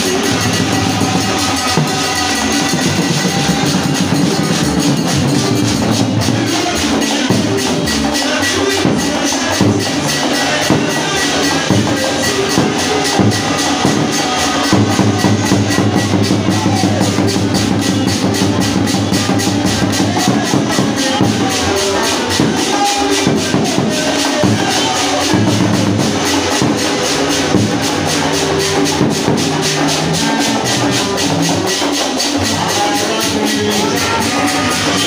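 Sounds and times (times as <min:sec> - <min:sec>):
hand percussion beat: 0:00.0 - 0:35.0.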